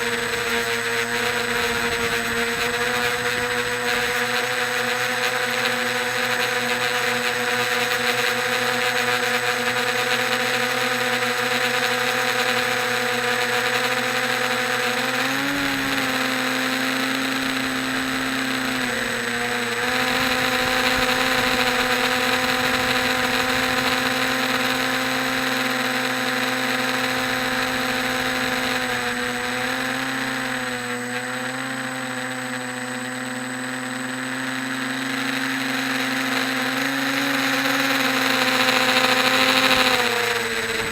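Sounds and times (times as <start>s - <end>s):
quadcopter propellers humming: 0.0s - 40.9s.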